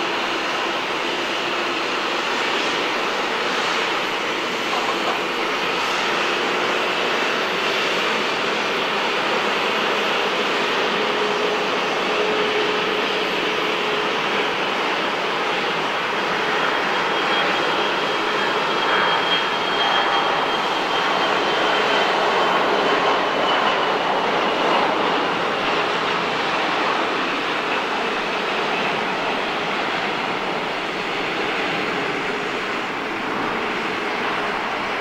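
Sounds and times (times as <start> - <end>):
jet engine roar: 0.0 - 35.0.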